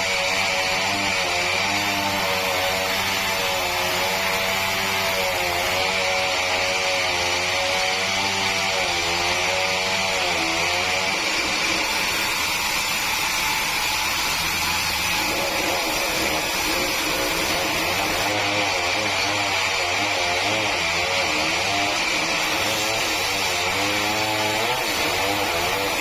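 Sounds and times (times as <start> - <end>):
sawmill saw cutting log: 0.0 - 26.0.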